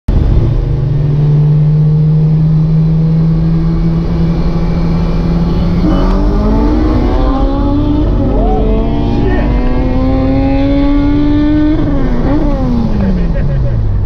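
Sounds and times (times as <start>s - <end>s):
car engine accelerating: 0.1s - 14.0s.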